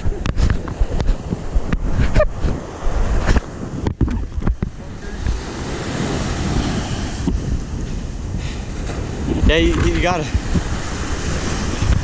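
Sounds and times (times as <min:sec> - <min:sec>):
open water washing: 0:00.0 - 0:12.0
wind buffeting the microphone: 0:00.0 - 0:12.0.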